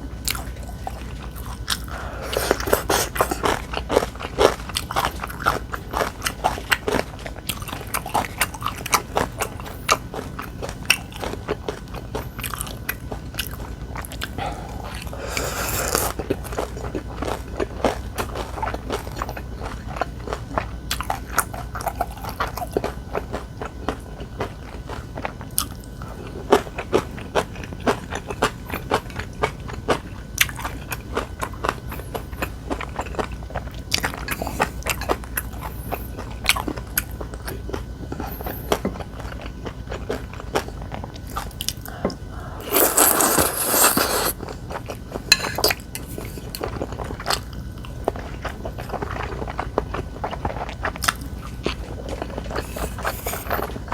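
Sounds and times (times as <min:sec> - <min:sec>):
crunchy food chewing: 0:00.0 - 0:53.9.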